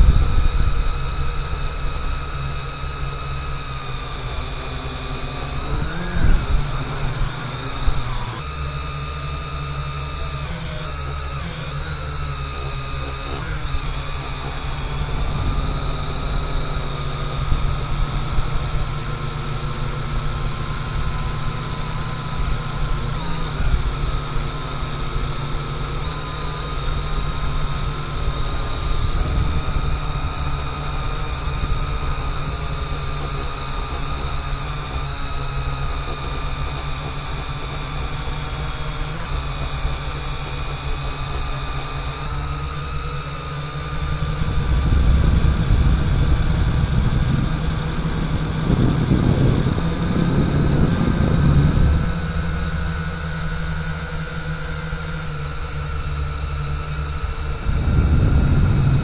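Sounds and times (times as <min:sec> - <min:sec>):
low rumble of wind: 0:00.0 - 0:10.0, 0:12.0 - 0:59.0
drone propellers whining: 0:00.0 - 0:59.0.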